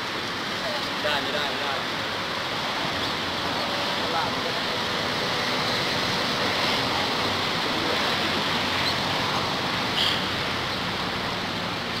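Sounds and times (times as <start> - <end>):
outdoor rushing noise: 0.0 - 12.0.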